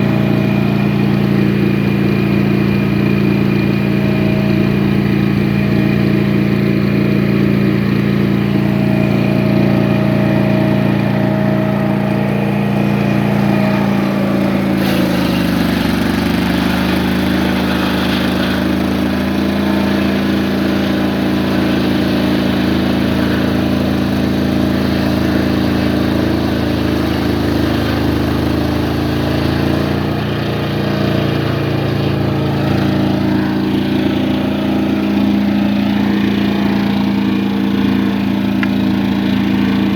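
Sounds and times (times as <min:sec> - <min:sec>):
saw cutting wood rushing: 0:00.0 - 0:39.9
sawmill engine running: 0:00.0 - 0:39.9.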